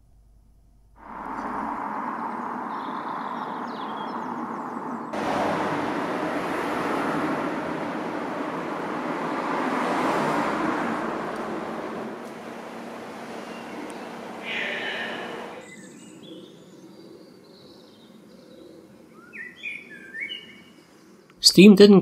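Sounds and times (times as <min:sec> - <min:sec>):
road traffic noise: 0:01.0 - 0:21.5.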